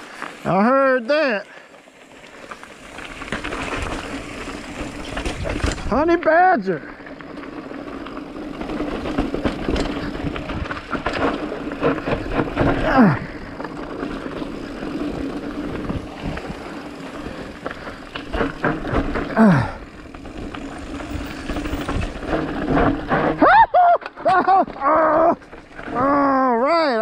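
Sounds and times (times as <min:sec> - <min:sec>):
bike rattling over bumps: 0:00.0 - 0:27.0
bike tyres humming on dirt: 0:00.0 - 0:27.0.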